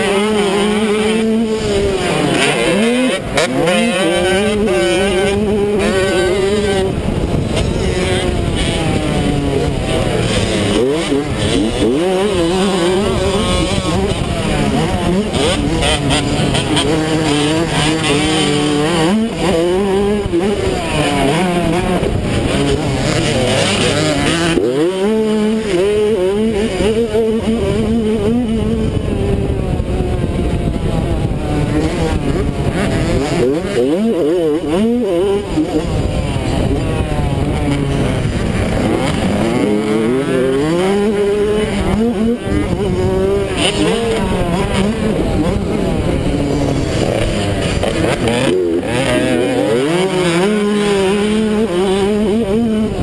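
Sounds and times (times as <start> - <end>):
dirt bike engine revving: 0.0 - 53.0
wind hissing over microphone: 0.4 - 48.9.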